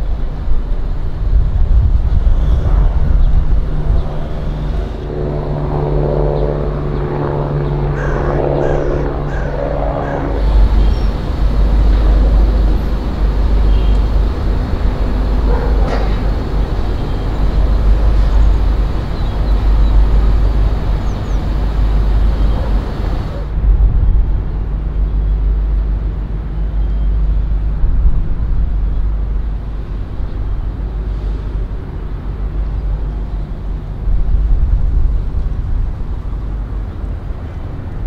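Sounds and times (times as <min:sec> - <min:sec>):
engine and traffic rumble: 0:00.0 - 0:38.0.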